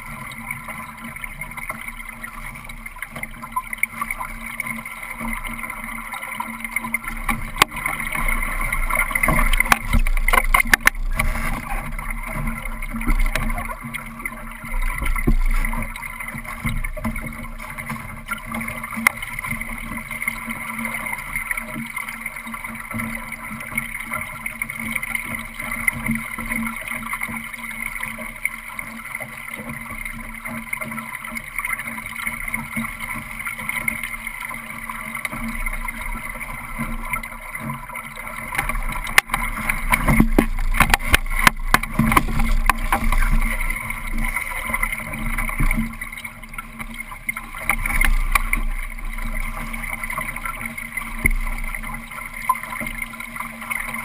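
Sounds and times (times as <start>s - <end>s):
knocks and rattles on a boat: 0.0s - 54.0s
water slapping a boat hull: 0.0s - 54.0s.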